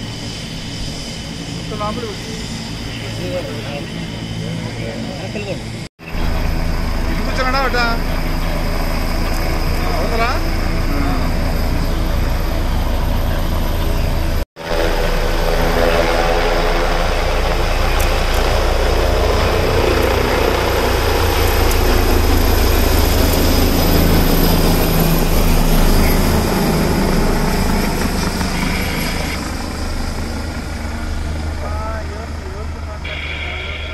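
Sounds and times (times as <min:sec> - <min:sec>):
helicopter flying low: 0:00.0 - 0:33.9.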